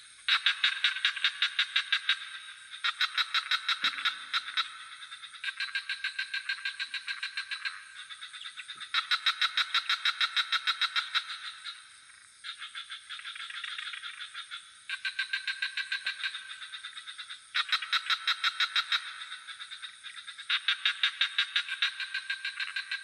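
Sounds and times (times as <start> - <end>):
frogs calling in pulsed trills: 0.0 - 23.0
high-pitched insect drone: 0.0 - 23.0.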